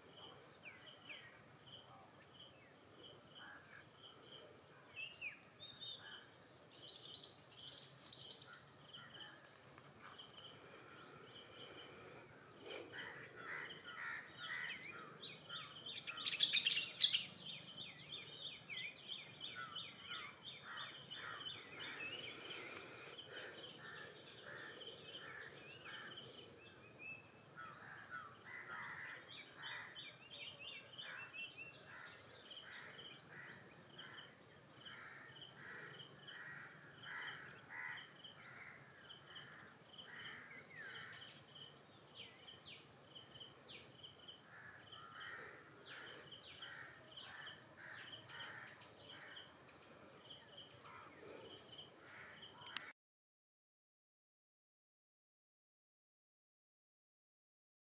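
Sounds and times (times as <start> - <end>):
faint birds chirping: 0.0 - 53.0.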